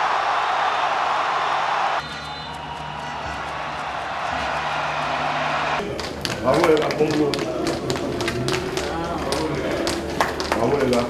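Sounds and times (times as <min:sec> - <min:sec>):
stadium crowd hum: 0:00.0 - 0:11.0.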